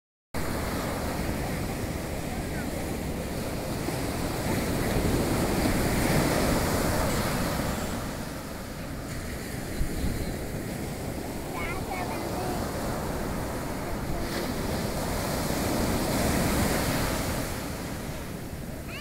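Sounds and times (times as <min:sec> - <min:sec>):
wind rumbling on microphone: 0:00.4 - 0:18.8
surf washing on beach: 0:00.4 - 0:19.0.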